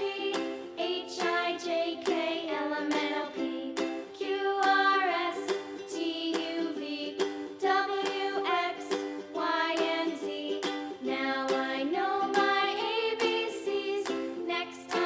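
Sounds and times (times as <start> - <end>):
children's plucked melody with beat: 0.0 - 15.0.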